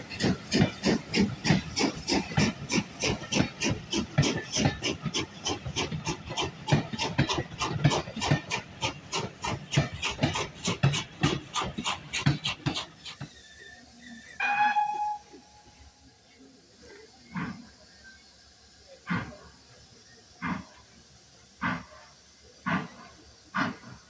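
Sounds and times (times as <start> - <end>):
steam locomotive chuffing: 0.0 - 24.0.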